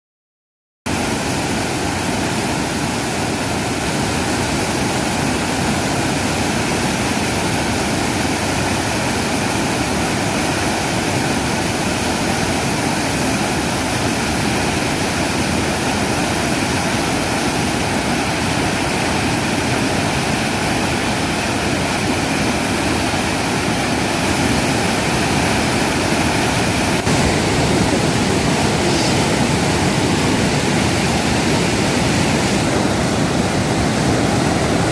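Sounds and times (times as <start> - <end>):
waterfall splashing: 0.9 - 34.9.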